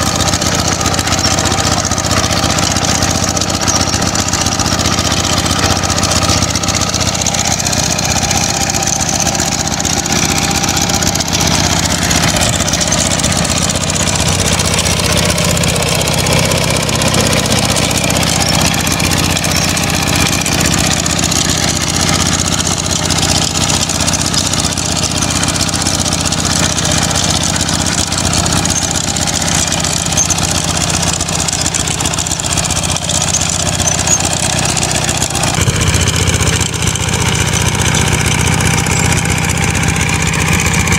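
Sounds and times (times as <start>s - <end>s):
hand tractor engine under load: 0.0s - 40.9s.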